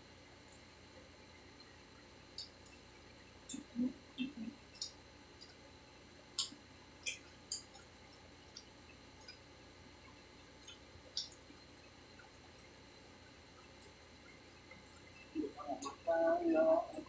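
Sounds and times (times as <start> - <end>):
mouth clicks and smacks from chewing: 1.6 - 5.7, 6.3 - 16.0.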